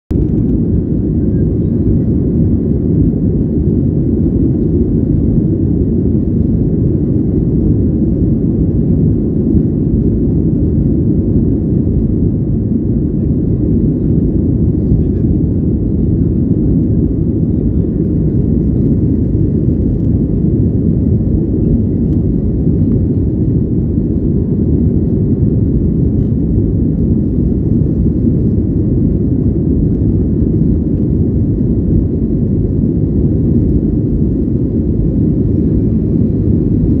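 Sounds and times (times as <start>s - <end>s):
airliner cabin engine rumble: 0.1s - 37.0s.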